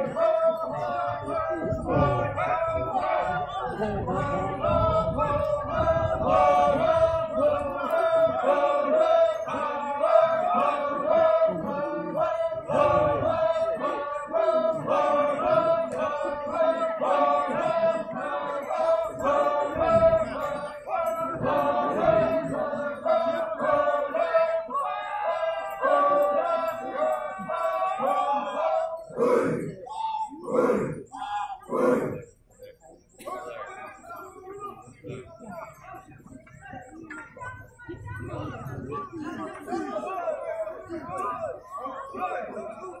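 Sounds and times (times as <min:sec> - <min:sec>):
group chanting in unison: 0:00.0 - 0:32.4, 0:37.8 - 0:43.0.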